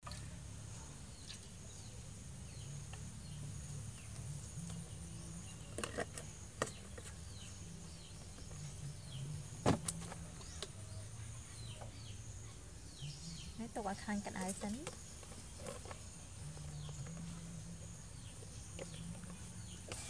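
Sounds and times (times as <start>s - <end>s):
birds chirping: 0.1s - 20.0s
insects buzzing: 0.2s - 20.0s.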